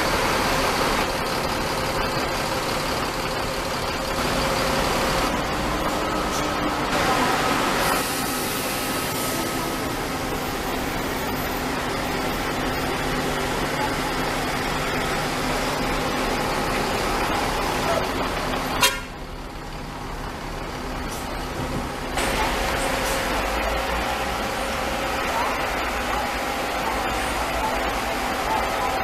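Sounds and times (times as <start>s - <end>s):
buses and traffic: 0.0s - 29.0s.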